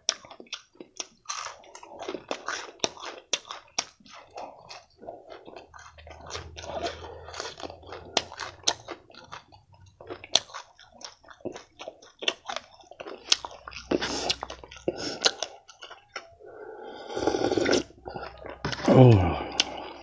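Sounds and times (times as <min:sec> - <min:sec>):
chewing crunchy food: 0:00.0 - 0:20.0.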